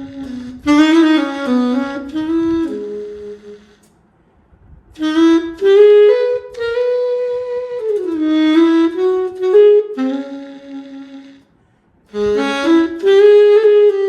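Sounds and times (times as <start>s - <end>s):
saxophone melody: 0.0s - 3.9s, 5.0s - 11.5s, 12.1s - 14.0s.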